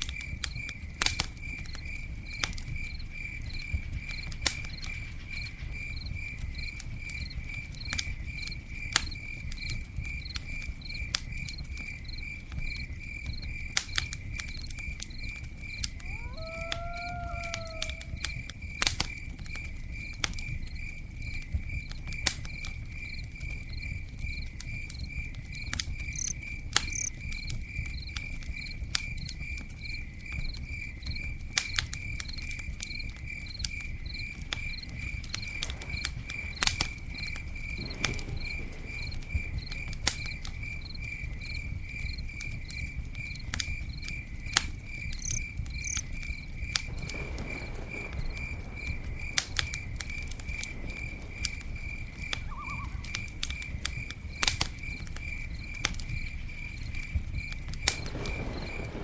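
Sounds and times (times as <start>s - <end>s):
campfire crackling and popping: 0.0s - 59.0s
cricket chirping: 0.0s - 59.0s.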